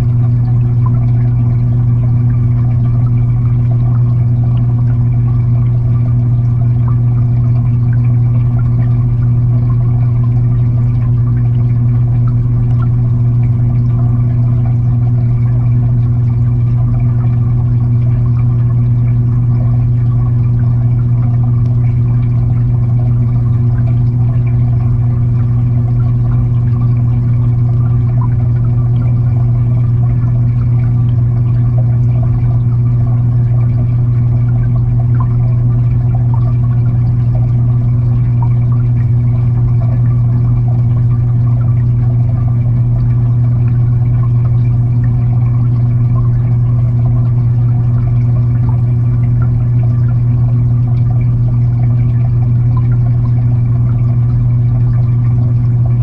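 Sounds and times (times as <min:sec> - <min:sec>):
aquarium filter pump hum: 0:00.0 - 0:56.0
crackling of moving water: 0:00.0 - 0:56.0.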